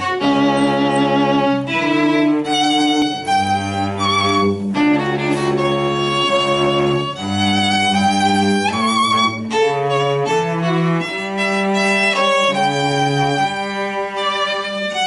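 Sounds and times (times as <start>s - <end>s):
string ensemble playing: 0.0s - 15.0s
violin bowing: 0.0s - 15.0s.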